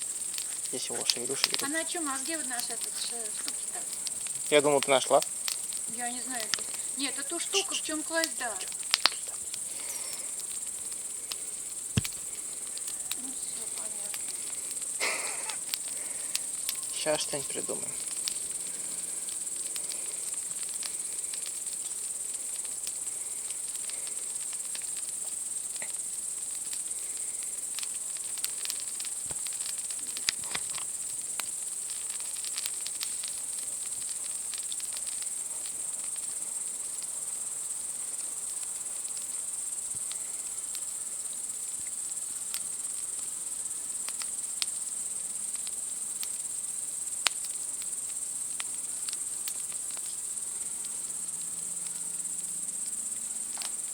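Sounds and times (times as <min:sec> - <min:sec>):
campfire crackling: 0:00.0 - 0:53.9
night insects chorus: 0:00.0 - 0:53.9.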